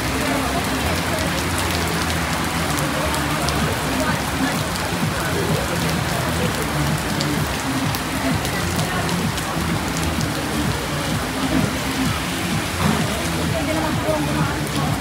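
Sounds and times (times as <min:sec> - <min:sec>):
sharp raindrop ticks: 0:00.0 - 0:15.0
steady rain falling: 0:00.0 - 0:15.0.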